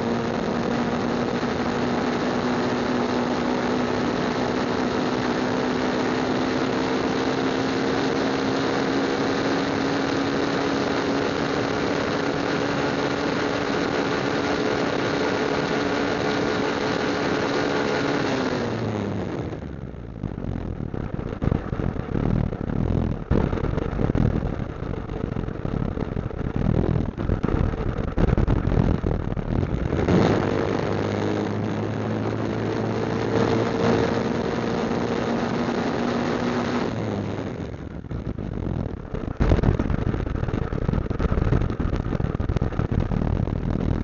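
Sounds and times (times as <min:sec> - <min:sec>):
motorcycle engine: 0:00.0 - 0:44.0
wind and road noise: 0:00.0 - 0:44.0.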